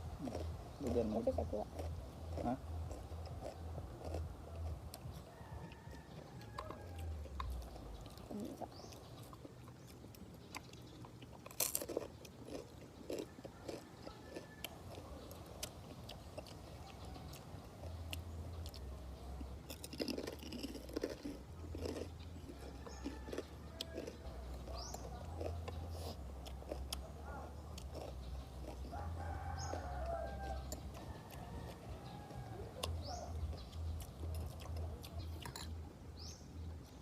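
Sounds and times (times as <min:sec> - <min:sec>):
crunchy bites: 0:00.1 - 0:35.8
person chewing food: 0:00.1 - 0:35.9.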